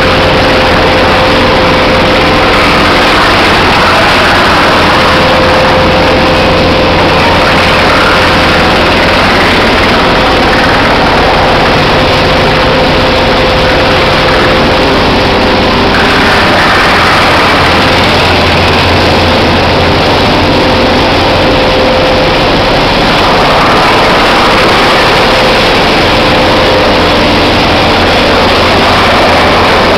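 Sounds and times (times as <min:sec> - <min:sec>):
industrial machinery whine: 0:00.0 - 0:29.9
machinery low hum: 0:00.0 - 0:29.9.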